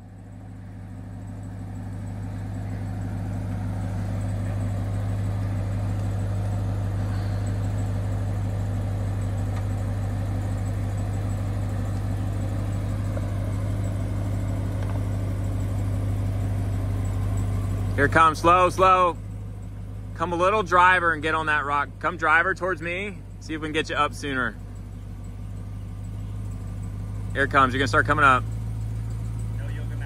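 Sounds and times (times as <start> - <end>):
vehicle engine running at low revs: 0.0 - 30.0.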